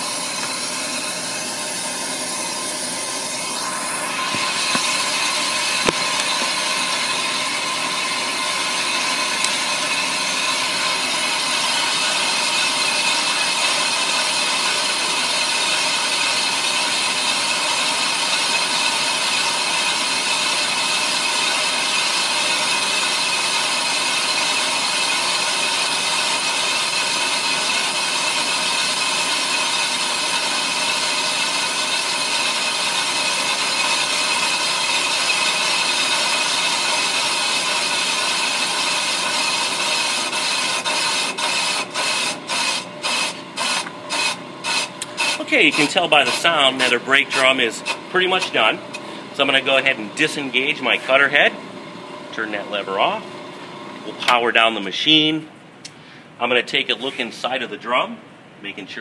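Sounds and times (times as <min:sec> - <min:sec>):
lathe bit scraping hiss: 0:00.0 - 0:51.6
machine humming: 0:00.0 - 0:54.5.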